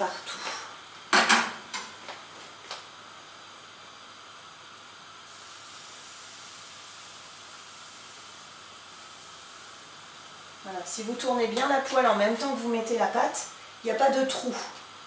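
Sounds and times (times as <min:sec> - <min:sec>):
batter hissing in hot pans: 0:00.0 - 0:15.0.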